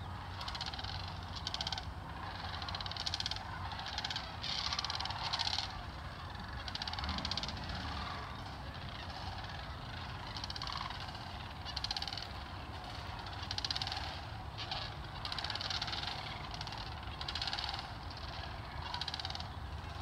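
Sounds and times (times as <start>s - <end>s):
cranes calling: 0.0s - 20.0s.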